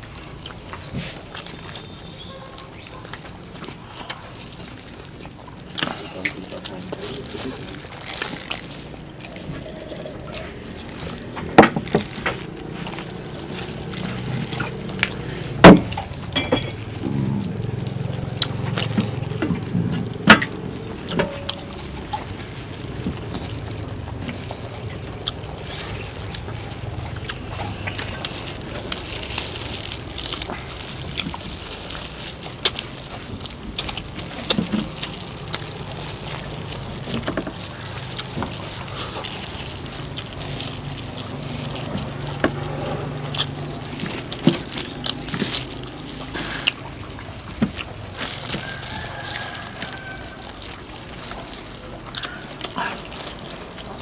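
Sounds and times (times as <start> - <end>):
wet chewing and lip-smacking: 0.0 - 54.0.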